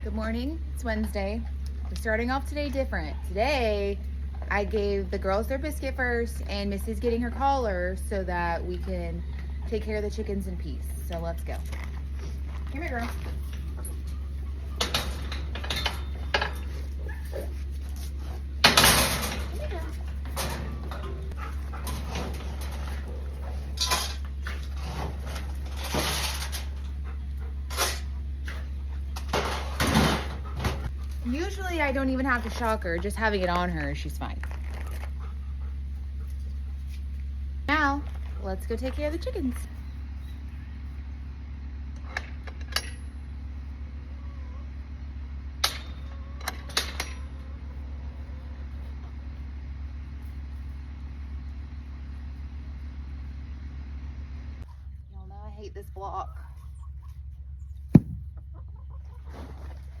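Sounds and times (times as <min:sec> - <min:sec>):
steady low hum: 0:00.0 - 1:00.0.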